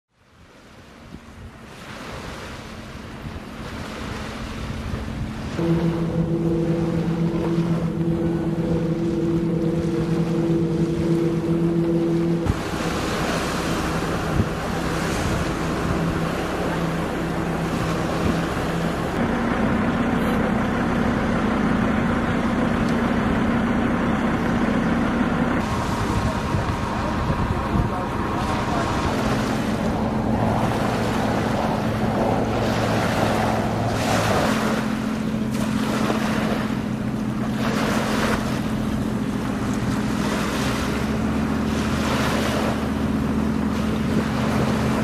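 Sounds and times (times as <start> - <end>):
boat engine droning: 0.1 - 45.0
choppy water: 0.1 - 45.0
wind buffeting microphone: 1.0 - 45.0.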